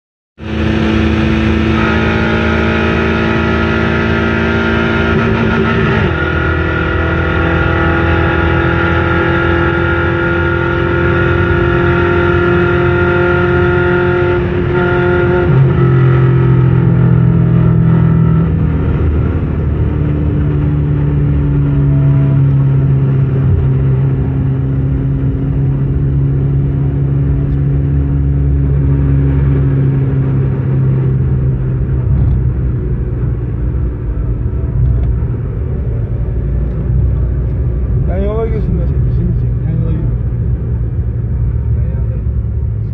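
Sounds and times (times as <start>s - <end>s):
loud car engine at steady revs: 0.4s - 42.9s.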